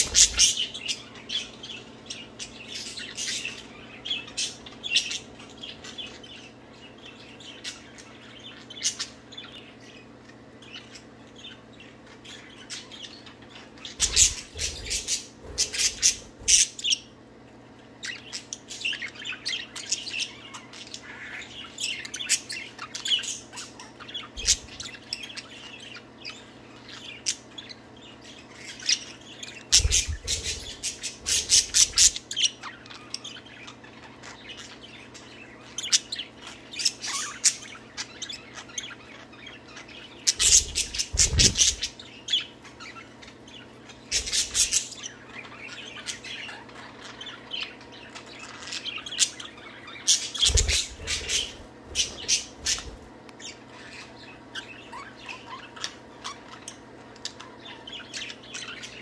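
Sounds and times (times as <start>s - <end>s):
budgerigars chattering: 0.0s - 17.2s, 18.0s - 59.0s.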